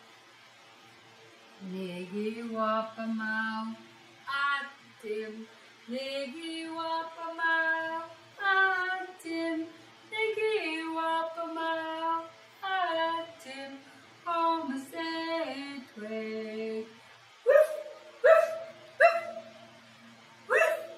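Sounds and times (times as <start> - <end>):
woman singing unaccompanied: 1.6 - 19.2.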